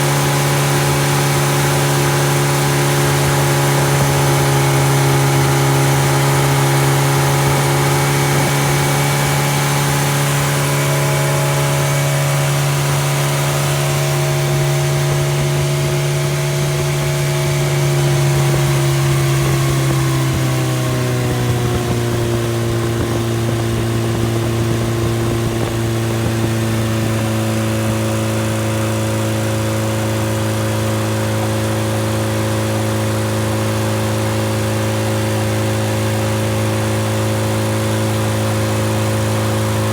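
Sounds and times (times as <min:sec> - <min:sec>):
engine running without muffler: 0:00.0 - 0:39.9.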